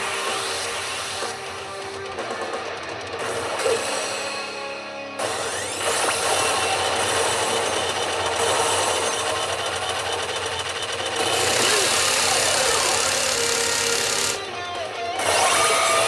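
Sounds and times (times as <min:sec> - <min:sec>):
pachinko machine rattling buzz: 0:00.0 - 0:16.0.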